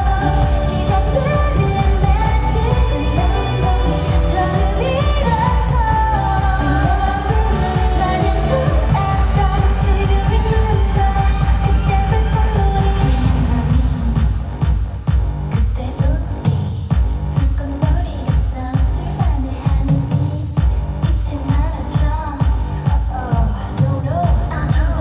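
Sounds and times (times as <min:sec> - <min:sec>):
dance-pop song with women singing: 0:00.0 - 0:25.0.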